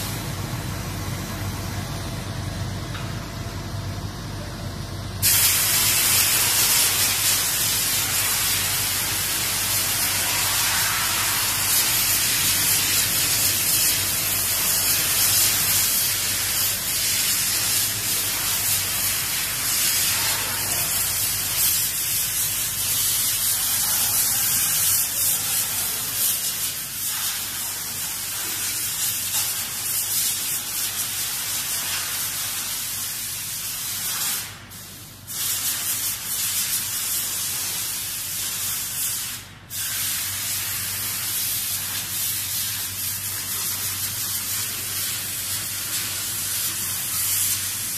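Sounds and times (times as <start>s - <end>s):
hissing rush of air and machinery: 0.0s - 47.9s.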